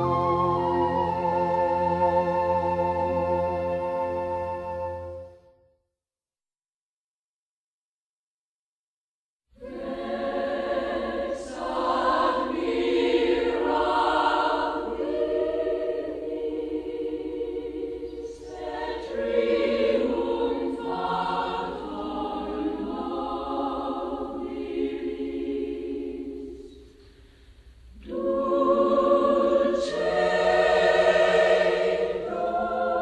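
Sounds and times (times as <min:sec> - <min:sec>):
choir singing: 0:00.0 - 0:05.4, 0:09.6 - 0:26.9, 0:27.9 - 0:33.0.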